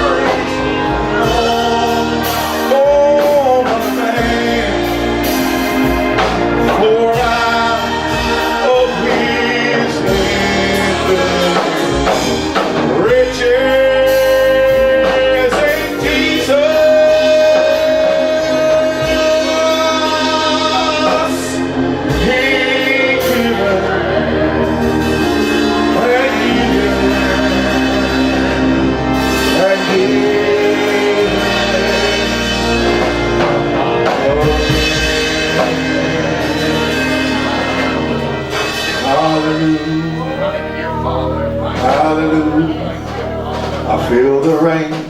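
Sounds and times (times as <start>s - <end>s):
church band playing: 0.0s - 45.0s
voices singing: 0.0s - 45.0s.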